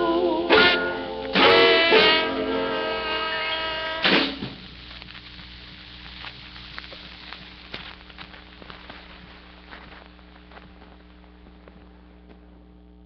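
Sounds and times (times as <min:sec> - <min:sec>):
faint crackling: 0:00.0 - 0:13.0
steady electrical hum: 0:00.0 - 0:13.0.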